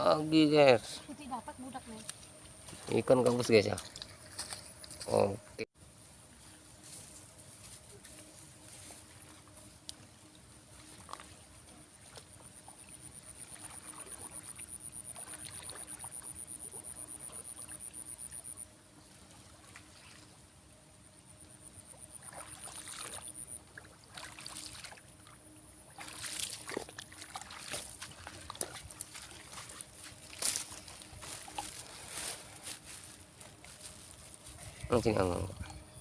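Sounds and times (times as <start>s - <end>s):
splashing and rustling: 1.8s - 5.3s, 6.8s - 18.0s, 19.0s - 20.4s, 22.2s - 35.4s.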